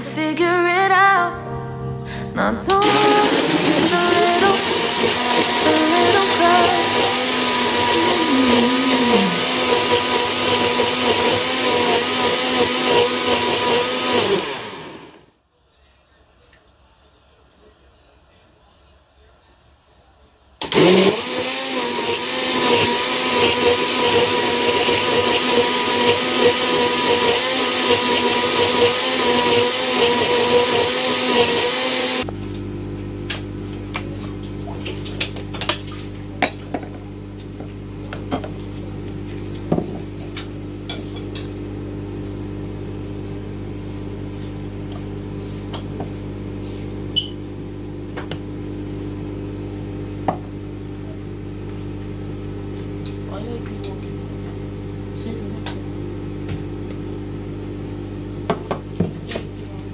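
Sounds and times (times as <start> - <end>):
electric blender running: 2.8 - 15.4, 20.6 - 59.9.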